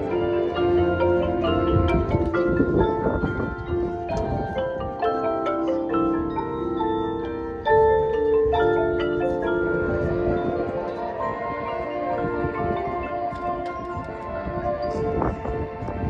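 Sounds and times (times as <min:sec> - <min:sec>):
marching band playing: 0:00.0 - 0:14.4
marimba: 0:00.0 - 0:16.0.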